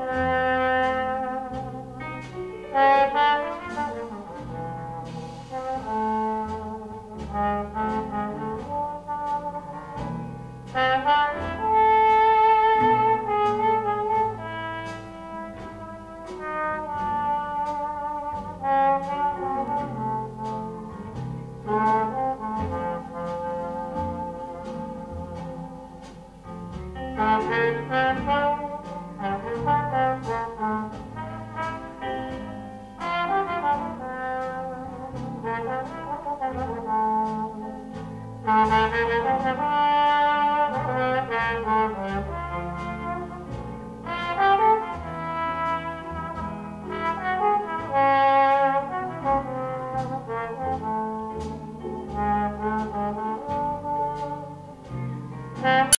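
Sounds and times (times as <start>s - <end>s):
drums: 0.0s - 55.9s
jazz trombone solo: 0.0s - 55.9s
piano: 0.0s - 55.9s
string bass: 0.0s - 55.9s.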